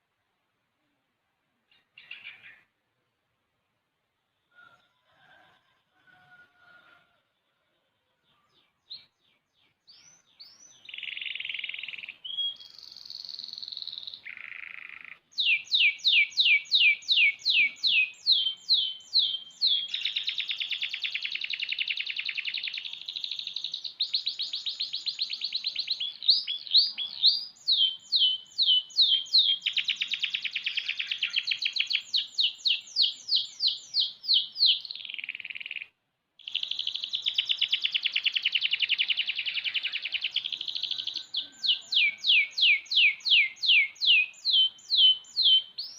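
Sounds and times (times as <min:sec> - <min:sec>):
canary singing: 0:01.7 - 0:02.7, 0:08.4 - 0:45.9.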